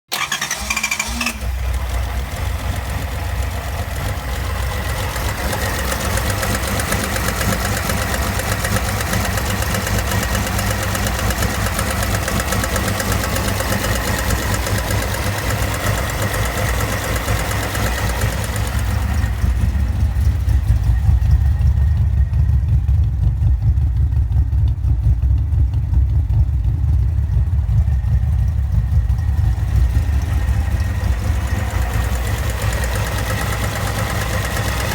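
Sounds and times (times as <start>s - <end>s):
car engine idling: 0.1s - 34.9s.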